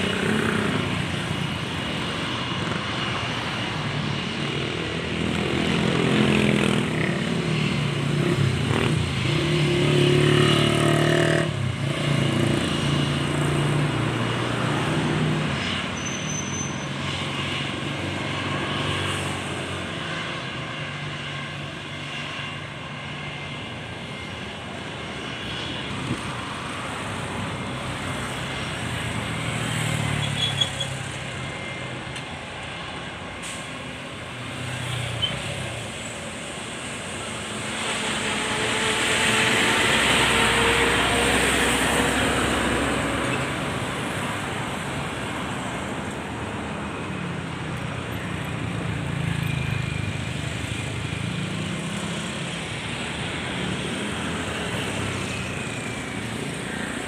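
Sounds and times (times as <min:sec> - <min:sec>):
airplane passing overhead: 0:00.0 - 0:16.0, 0:16.7 - 0:57.0
road traffic: 0:00.0 - 0:57.0.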